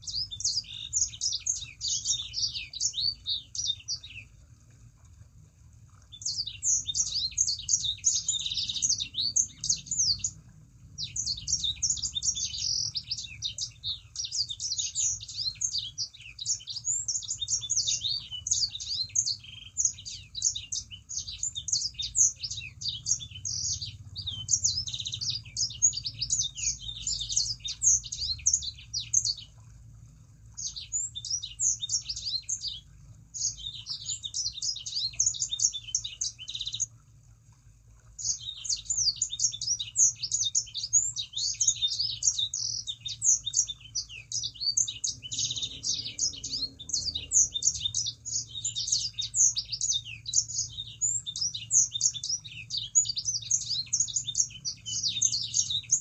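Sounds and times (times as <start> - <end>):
songbird singing: 0.0 - 4.8, 5.9 - 37.2, 37.9 - 56.0.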